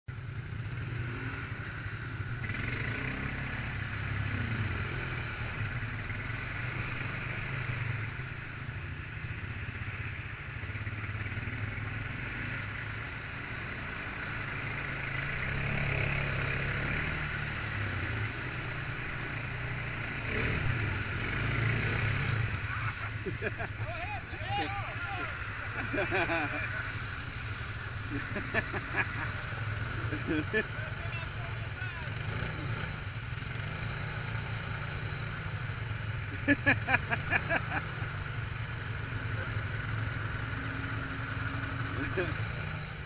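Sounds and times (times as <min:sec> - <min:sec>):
atv engine running: 0:00.1 - 0:43.0.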